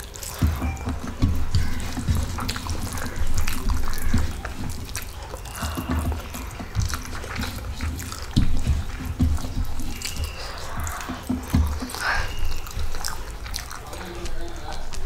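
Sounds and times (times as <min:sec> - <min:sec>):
fingers squishing rice on plate: 0:00.0 - 0:15.0
wet chewing: 0:00.0 - 0:15.0.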